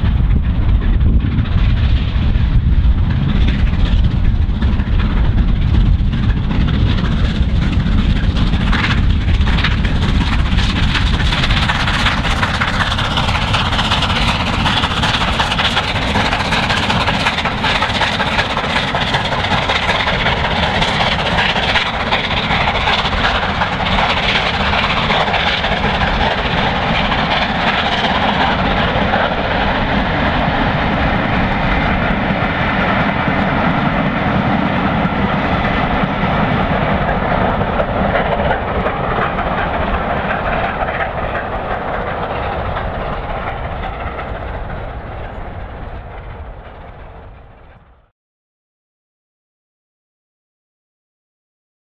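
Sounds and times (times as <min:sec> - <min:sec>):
steam locomotive working hard: 0:00.0 - 0:48.1
train coaches running by: 0:00.0 - 0:48.1.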